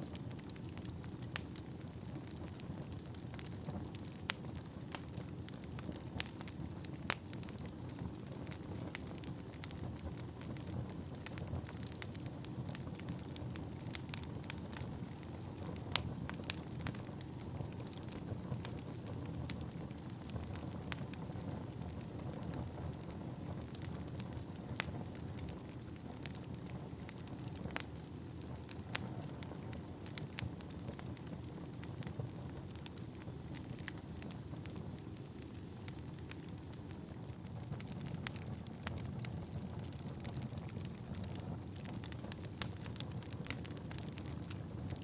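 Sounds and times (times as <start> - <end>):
burning logs crackling and popping: 0.0 - 45.0
low rumble of flames: 0.0 - 45.0.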